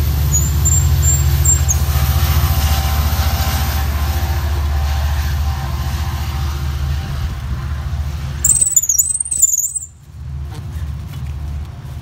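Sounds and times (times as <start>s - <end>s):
train diesel engine rumbling: 0.0s - 11.1s.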